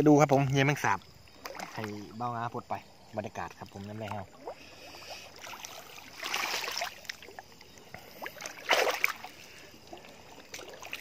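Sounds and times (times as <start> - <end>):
creek water trickling: 0.0 - 11.0
water splashing and sloshing: 0.0 - 11.0.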